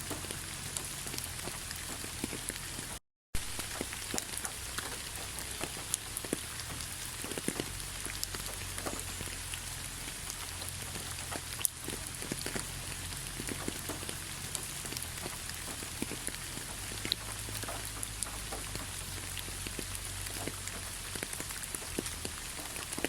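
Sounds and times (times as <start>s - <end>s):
steady rain with ticking drops: 0.0s - 23.0s.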